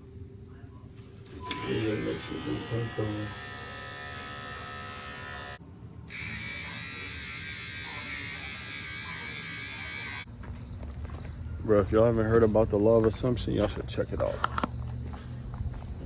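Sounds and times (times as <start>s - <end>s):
electric buzzing hum: 1.2s - 16.0s.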